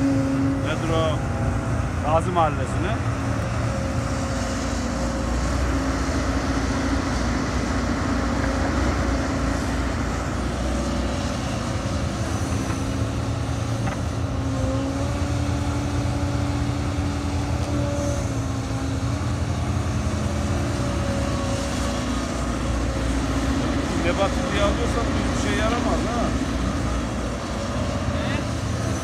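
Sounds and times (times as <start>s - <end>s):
excavator diesel engine: 0.0s - 29.0s.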